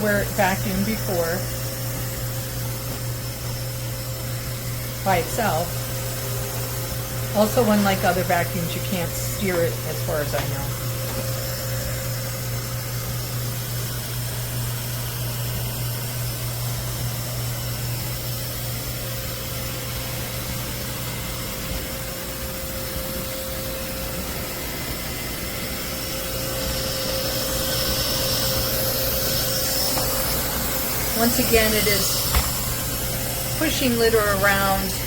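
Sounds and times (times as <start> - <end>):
robot vacuum whirring hum: 0.0 - 15.8, 16.7 - 35.0.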